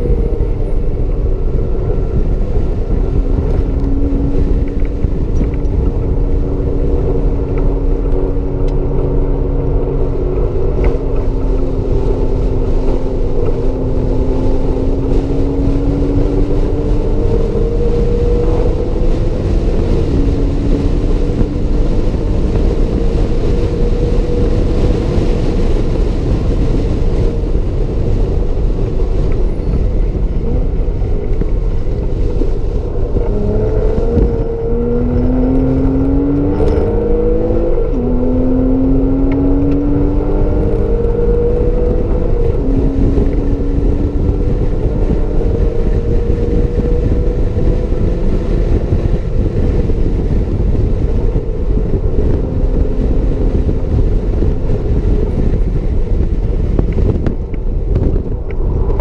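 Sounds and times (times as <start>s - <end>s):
car engine running at speed: 0.0s - 59.0s
wind and road noise: 0.0s - 59.0s.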